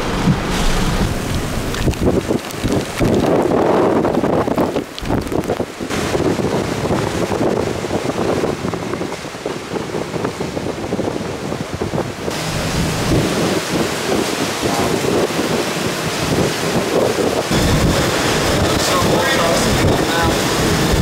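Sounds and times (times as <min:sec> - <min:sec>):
heavy rain: 0:00.0 - 0:21.0
wind buffeting microphone: 0:00.0 - 0:21.0.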